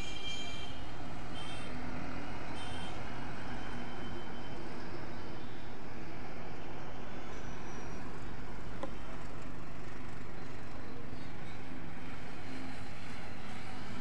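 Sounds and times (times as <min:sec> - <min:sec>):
city road traffic: 0:00.0 - 0:14.0.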